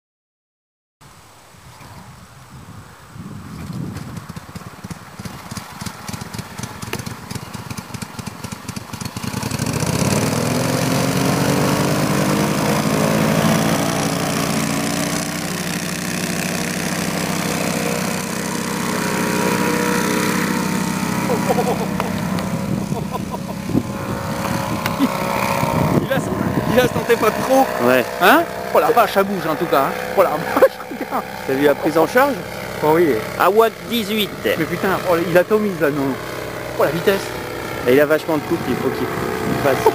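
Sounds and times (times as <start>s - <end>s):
paramotor engine and propeller: 3.4s - 39.9s.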